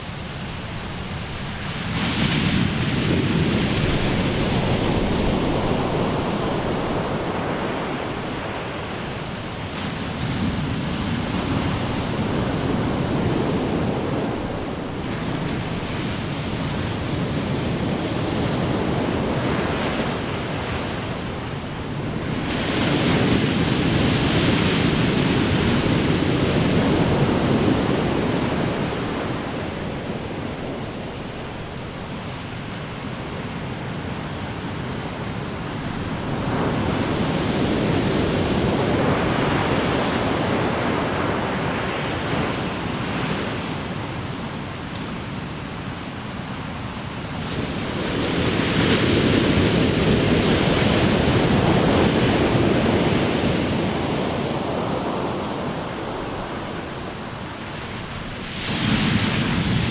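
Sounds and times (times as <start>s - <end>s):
big waves crashing: 0.0s - 59.9s.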